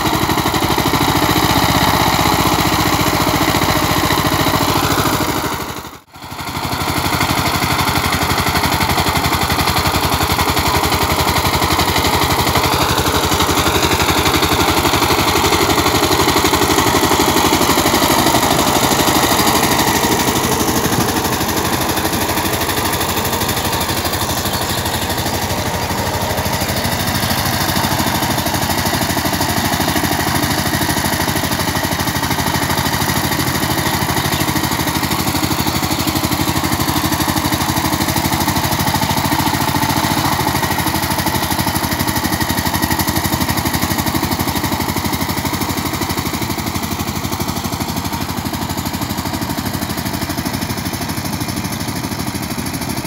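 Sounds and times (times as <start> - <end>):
diesel engine chugging: 0.0 - 53.0.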